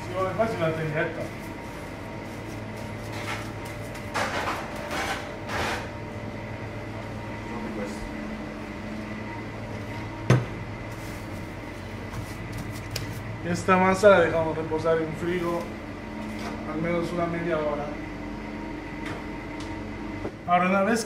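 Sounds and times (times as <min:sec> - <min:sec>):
hum of kitchen machines: 0:00.0 - 0:21.0.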